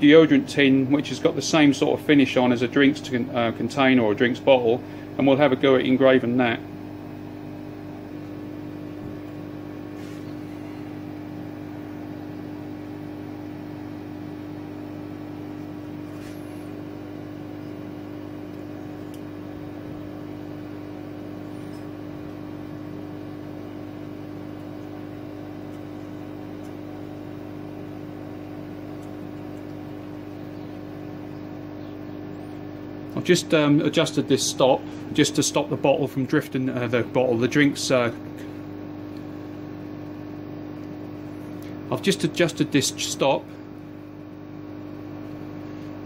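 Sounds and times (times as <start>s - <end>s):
motor hum: 0.0s - 46.0s.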